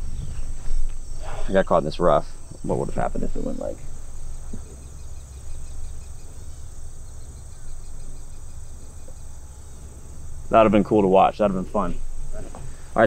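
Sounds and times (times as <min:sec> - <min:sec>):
insects trilling: 0:00.0 - 0:13.0
low steady rumble: 0:00.0 - 0:13.0.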